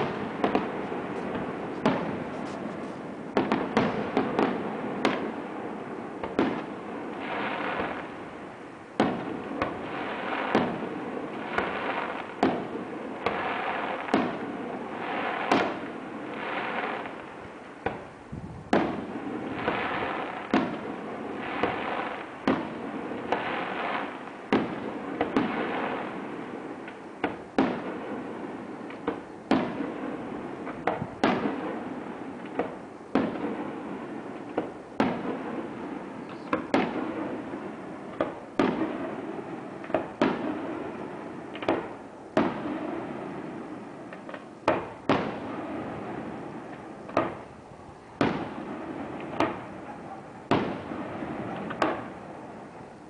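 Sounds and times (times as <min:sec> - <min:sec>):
firework crackling: 0:00.0 - 0:53.0.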